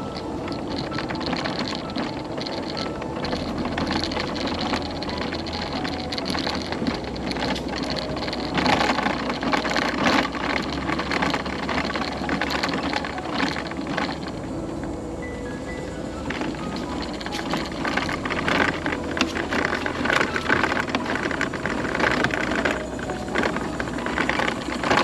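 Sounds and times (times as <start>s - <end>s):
electric drive humming: 0.0s - 25.0s
scooter rolling and rattling: 0.0s - 25.0s.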